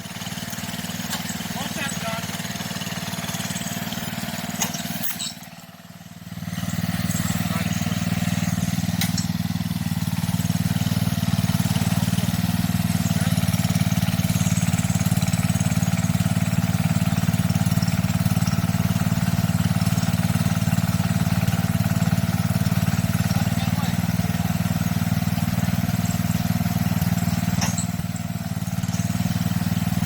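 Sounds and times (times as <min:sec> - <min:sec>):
garden tractor engine running: 0:00.0 - 0:30.0.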